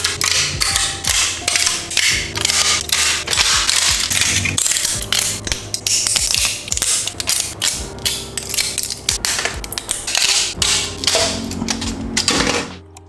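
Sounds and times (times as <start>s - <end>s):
cutters snapping plastic: 0.0s - 12.8s.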